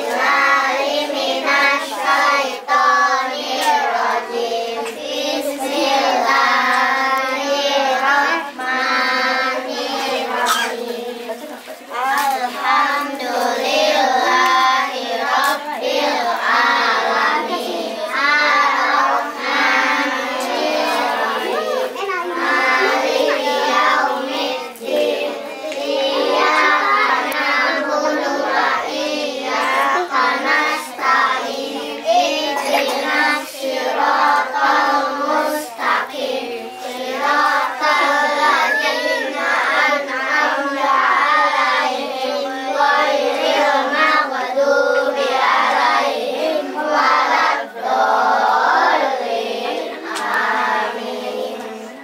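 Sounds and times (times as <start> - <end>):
children singing together: 0.0 - 52.0.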